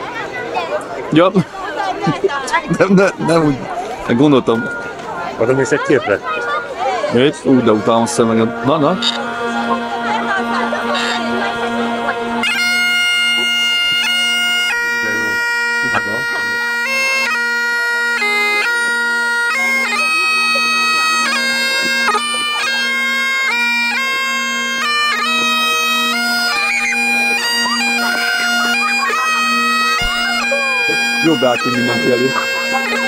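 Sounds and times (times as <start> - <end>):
bagpipes playing a tune: 2.5 - 33.0
steady bagpipe drone: 2.5 - 33.0.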